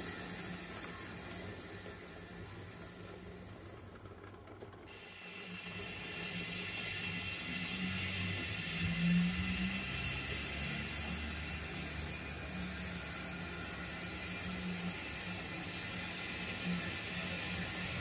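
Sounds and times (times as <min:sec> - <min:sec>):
locomotive motor hum: 0:00.0 - 0:18.0
model train wheels clattering: 0:00.0 - 0:18.0.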